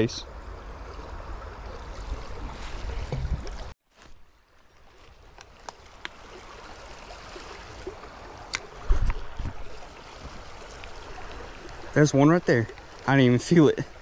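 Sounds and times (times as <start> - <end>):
creek running over rocks: 0.0 - 14.0.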